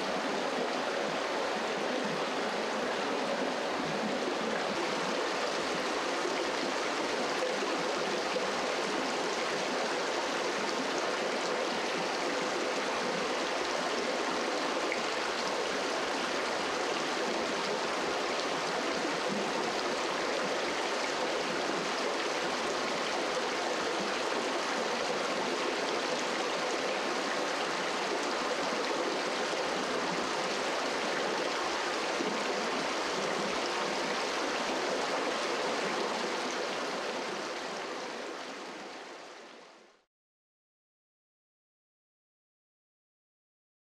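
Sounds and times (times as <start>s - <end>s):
stream water flowing: 0.0s - 40.0s.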